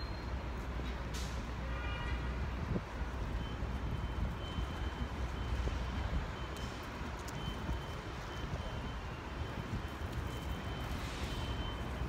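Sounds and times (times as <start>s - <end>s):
truck reversing alarm beeping: 0.0s - 1.6s, 2.5s - 12.0s
street traffic rumble: 0.0s - 12.0s.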